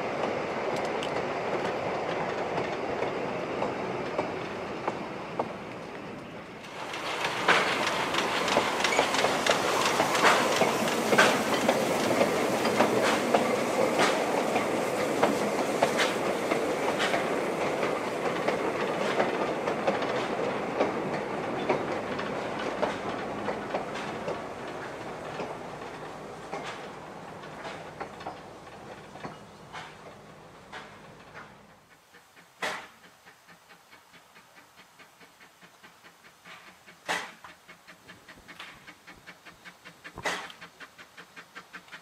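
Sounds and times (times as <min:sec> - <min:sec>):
train wheels clicking over rail joints: 0:00.0 - 0:42.0.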